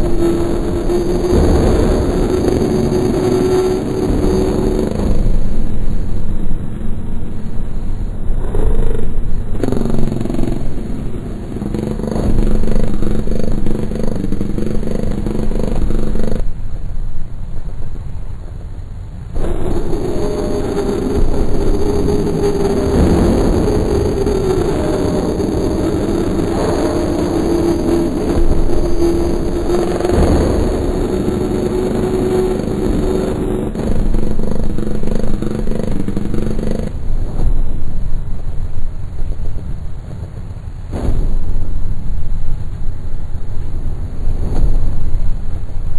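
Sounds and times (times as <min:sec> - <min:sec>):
dense low rumble: 0:00.0 - 0:45.9
steady held drone tones: 0:00.0 - 0:45.9.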